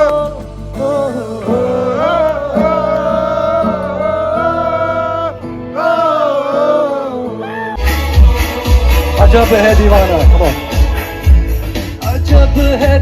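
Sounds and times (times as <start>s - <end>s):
instrumental backing: 0.0s - 13.0s.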